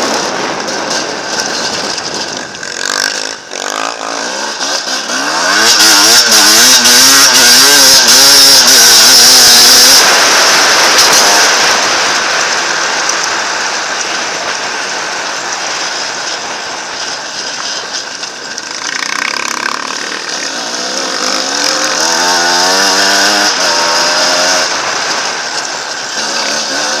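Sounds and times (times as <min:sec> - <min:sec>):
dirt bike engine running: 0:00.0 - 0:27.0.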